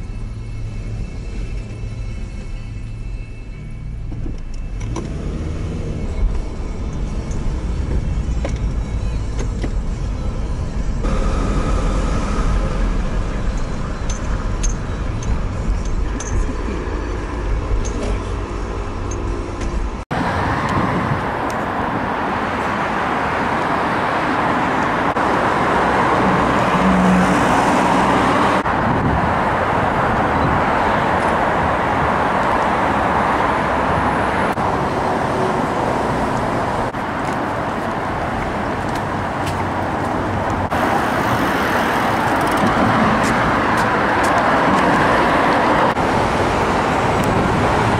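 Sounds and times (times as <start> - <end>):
outdoor road traffic: 0.0 - 47.9
road noise inside moving car: 0.0 - 47.9.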